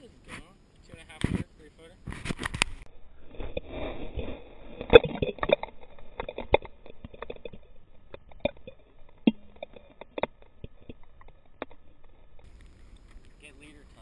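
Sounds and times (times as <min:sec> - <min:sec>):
low hum: 0:00.0 - 0:14.0
muffled underwater clicks and knocks: 0:00.8 - 0:13.4.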